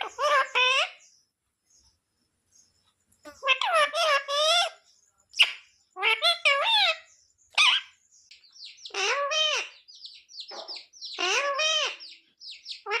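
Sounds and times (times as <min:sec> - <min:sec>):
parrot chirping: 0:00.0 - 0:01.2, 0:03.2 - 0:13.0.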